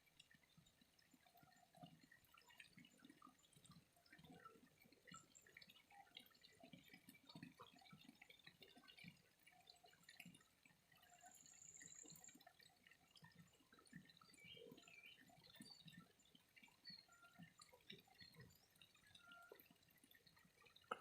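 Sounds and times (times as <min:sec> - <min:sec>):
water drips and splashes: 0:00.0 - 0:21.0.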